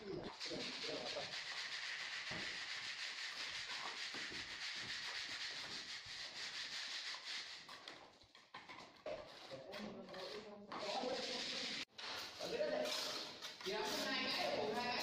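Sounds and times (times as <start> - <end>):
trowel scraping wet mortar: 0.3 - 15.0.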